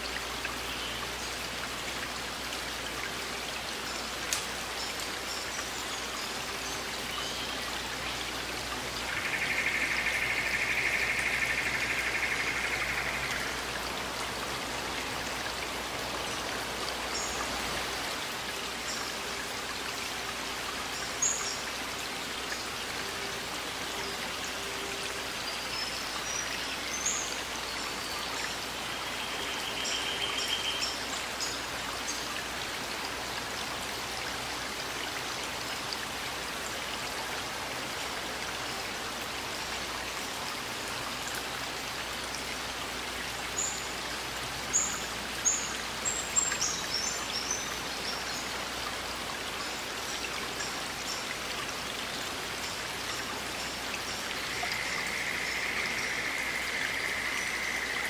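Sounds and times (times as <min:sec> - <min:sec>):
stream over rocks: 0:00.0 - 0:58.0.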